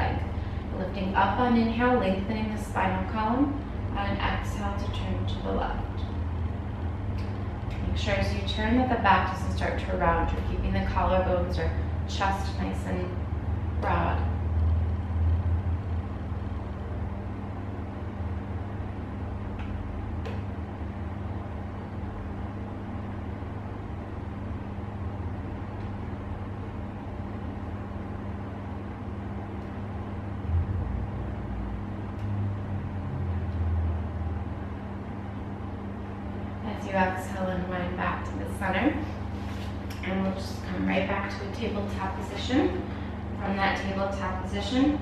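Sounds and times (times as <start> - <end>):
low background hum and rumble: 0.0 - 45.0.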